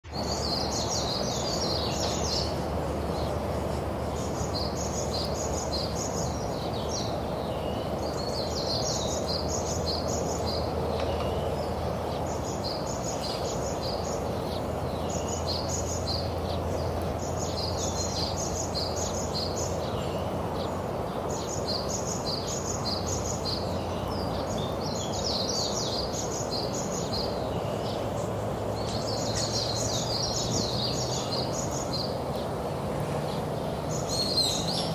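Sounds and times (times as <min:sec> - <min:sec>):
birds chirping: 0:00.0 - 0:34.9
steady background noise: 0:00.1 - 0:34.9.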